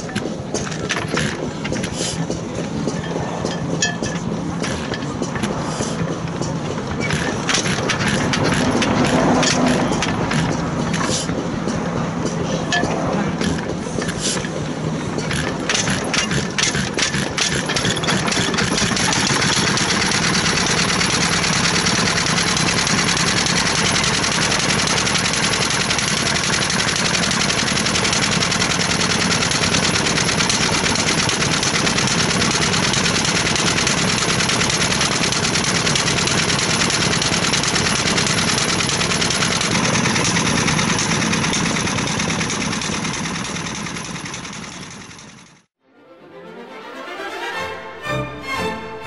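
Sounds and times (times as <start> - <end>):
stationary engine running: 0.0 - 45.8.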